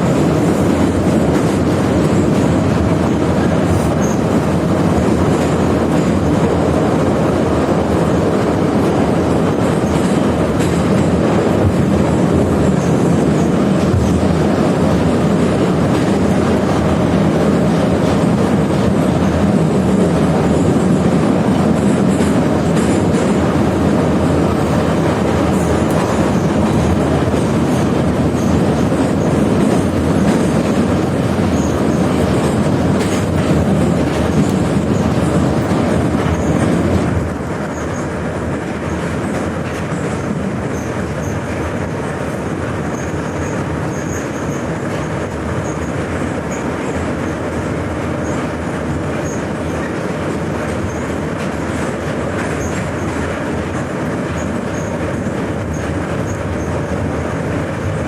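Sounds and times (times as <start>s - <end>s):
train wheels rumbling on rails: 0.0s - 58.0s
wheels clickety-clack: 0.0s - 58.0s.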